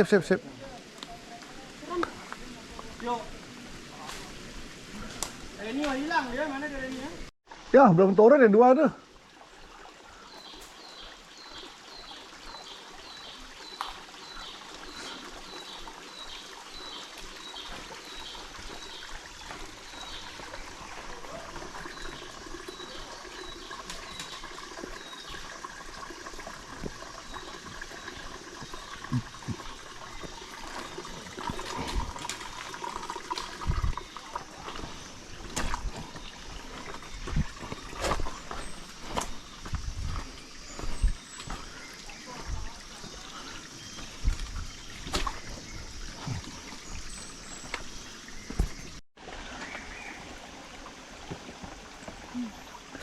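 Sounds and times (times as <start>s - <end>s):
water trickling: 0.0s - 53.0s.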